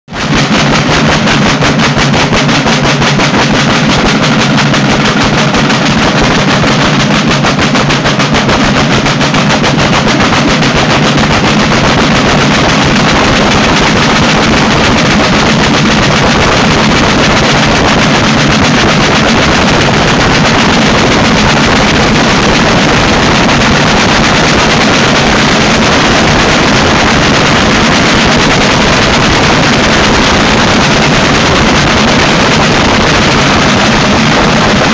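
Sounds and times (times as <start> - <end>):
drums in fast rolling rhythm: 0.0 - 34.9.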